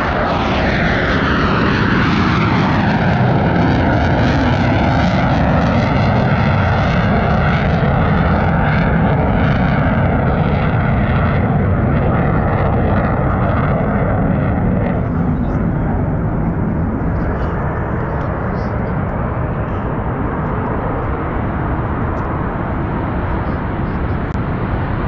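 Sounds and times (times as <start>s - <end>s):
jet fighter flying past: 0.0s - 25.0s.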